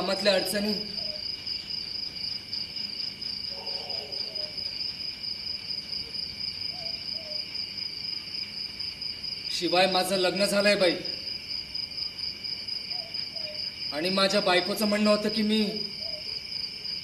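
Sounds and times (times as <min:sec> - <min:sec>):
cricket chirring: 0:00.0 - 0:17.0.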